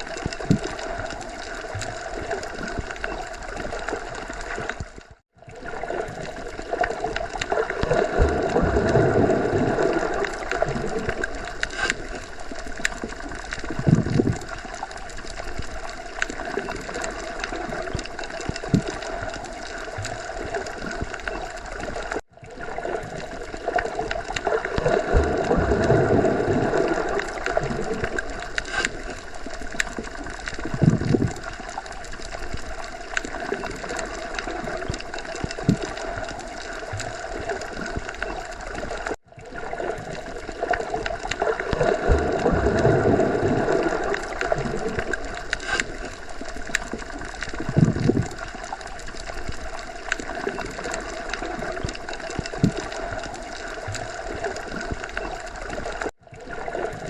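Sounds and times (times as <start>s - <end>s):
small underwater clicks: 0.0s - 57.0s.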